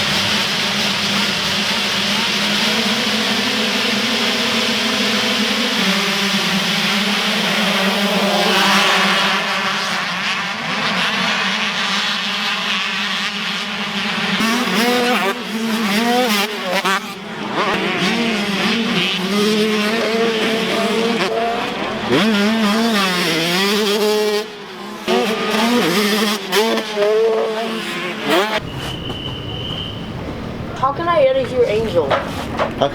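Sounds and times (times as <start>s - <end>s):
dirt bike engines revving: 0.0s - 32.9s.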